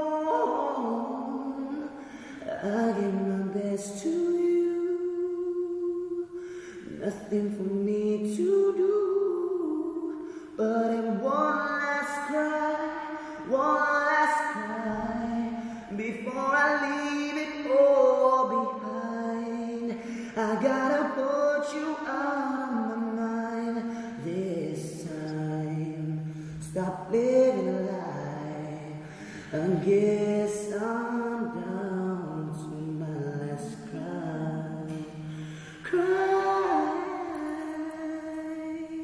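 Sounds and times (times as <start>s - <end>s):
acoustic guitar: 0.0s - 39.0s
man singing a slow ballad: 0.0s - 39.0s.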